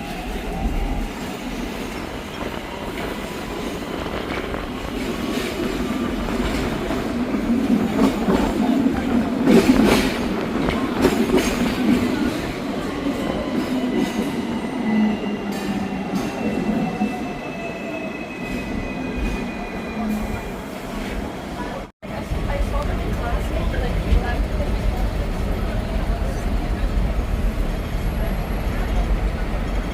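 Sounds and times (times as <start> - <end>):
tram rumbling on track: 0.0 - 29.9.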